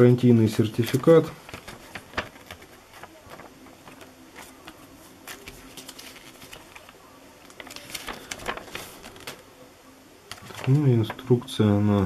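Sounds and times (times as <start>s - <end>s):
paper rustling and crackling: 0.0s - 9.6s, 10.3s - 12.0s.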